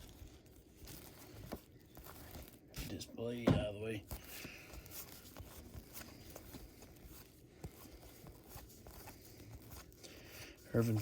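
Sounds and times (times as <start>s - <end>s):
wrapper crinkling: 0.0s - 11.0s.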